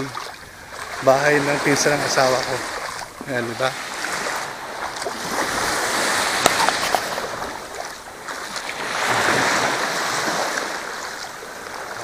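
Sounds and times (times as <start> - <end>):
waves washing onto shore: 0.0 - 12.0.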